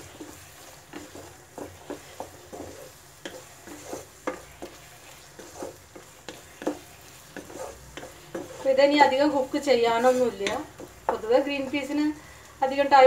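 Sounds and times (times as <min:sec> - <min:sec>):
wooden spatula scraping pan: 0:00.0 - 0:12.2
faint sizzle of frying paste: 0:00.0 - 0:13.0.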